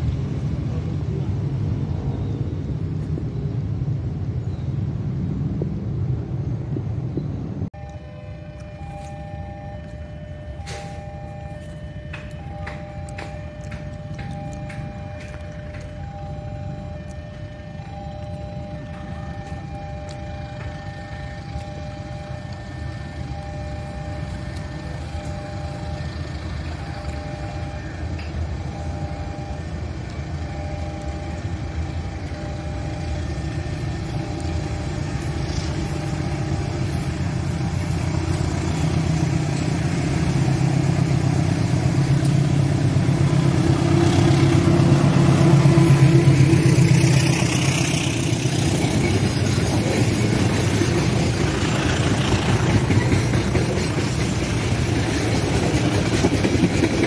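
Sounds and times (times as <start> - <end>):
locomotive rumble: 0.0 - 57.0
train wheels and carriages passing: 0.0 - 57.0.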